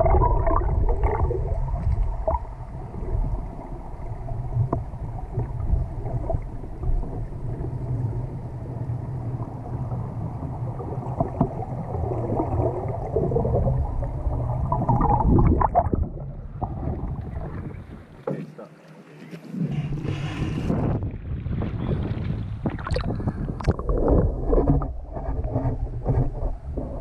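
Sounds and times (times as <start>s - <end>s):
muffled underwater river current: 0.0s - 27.0s.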